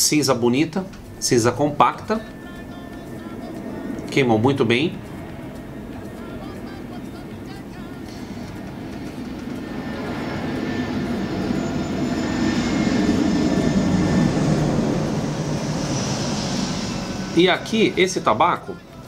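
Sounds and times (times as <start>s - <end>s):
passing engine rumbling: 0.0s - 19.0s.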